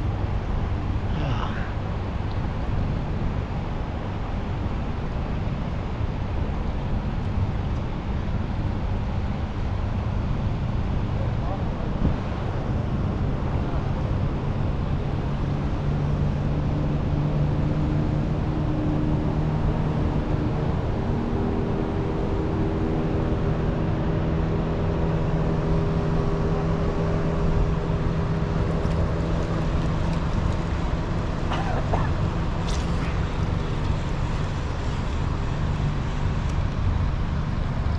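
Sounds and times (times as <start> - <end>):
rushing wind: 0.0 - 37.9.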